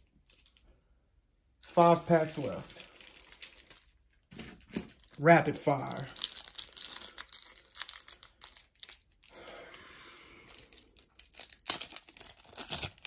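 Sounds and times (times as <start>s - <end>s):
foil wrapper crinkling and tearing: 1.6s - 9.6s, 10.4s - 13.0s.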